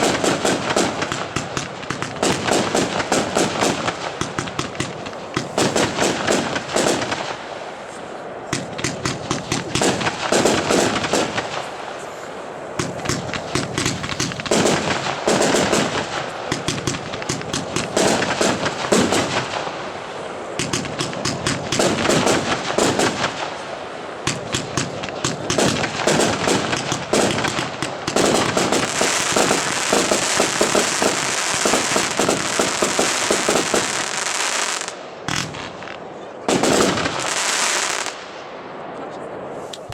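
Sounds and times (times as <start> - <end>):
firework cake firing shots: 0.0 - 7.4, 8.5 - 11.8, 12.8 - 19.7, 20.6 - 23.6, 24.2 - 38.2.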